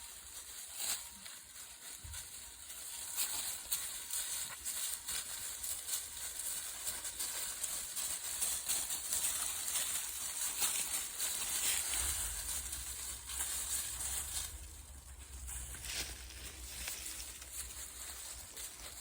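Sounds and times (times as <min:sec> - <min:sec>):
footsteps crunching dry leaves: 0:00.0 - 0:19.0.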